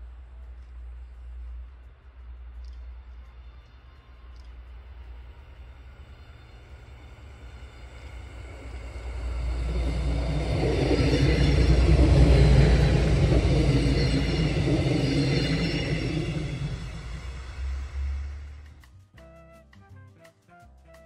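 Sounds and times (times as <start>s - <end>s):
train rumbling past: 0.0s - 18.9s.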